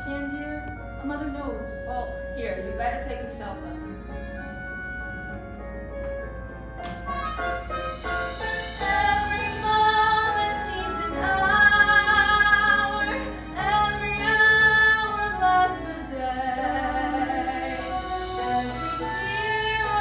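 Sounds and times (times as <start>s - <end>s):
instrumental accompaniment: 0.0s - 20.0s.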